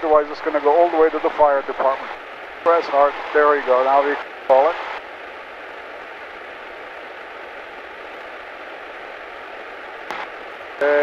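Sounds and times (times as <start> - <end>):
airplane cabin noise hiss: 0.0 - 11.0
faint steady whine: 0.0 - 11.0.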